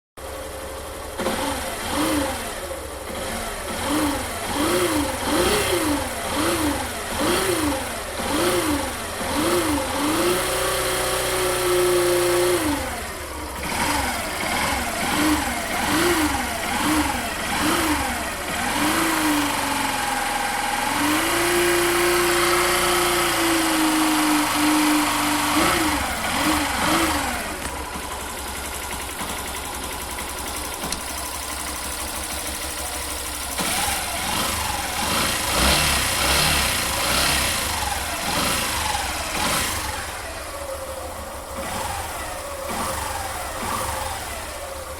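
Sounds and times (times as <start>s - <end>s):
motorcycle engine revving: 0.2s - 44.9s.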